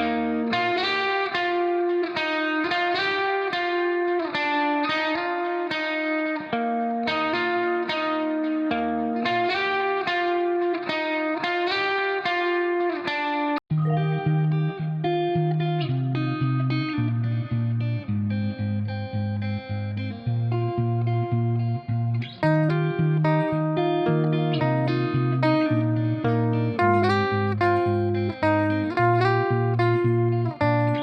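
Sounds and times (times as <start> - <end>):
plucked guitar tune: 0.0 - 31.0.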